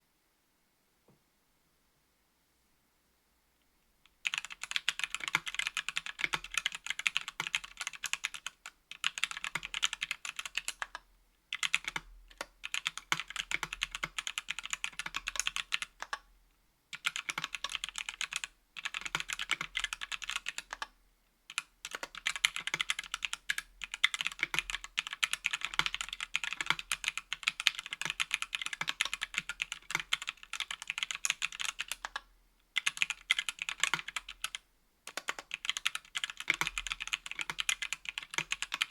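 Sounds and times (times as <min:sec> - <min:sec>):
mechanical keyboard typing: 0:04.2 - 0:16.2, 0:17.0 - 0:20.9, 0:21.5 - 0:32.2, 0:32.8 - 0:38.9.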